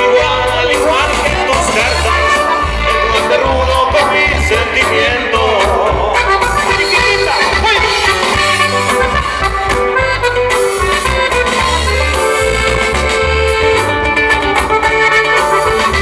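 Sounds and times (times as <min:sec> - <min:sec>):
accordion melody with bass and beat: 0:00.0 - 0:16.0.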